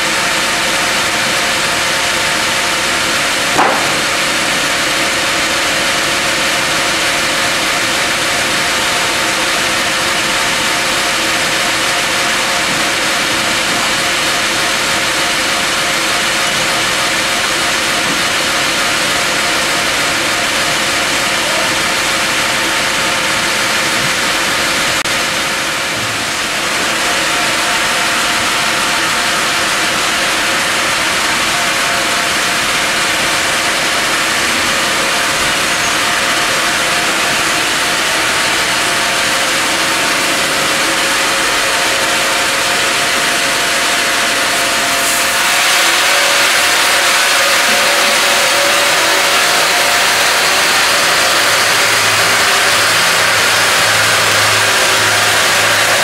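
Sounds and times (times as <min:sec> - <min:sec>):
bandsaw running: 0:00.0 - 0:56.0.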